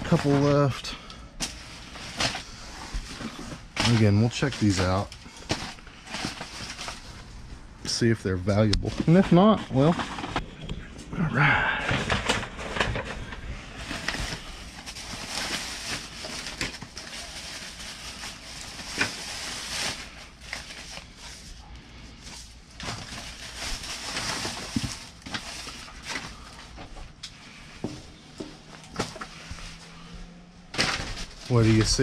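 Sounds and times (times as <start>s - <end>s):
rustling through discarded items: 0.0s - 32.0s.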